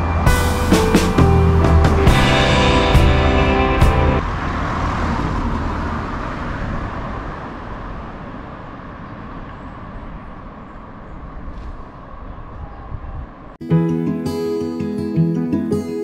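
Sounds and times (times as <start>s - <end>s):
passing road traffic: 0.0s - 13.6s.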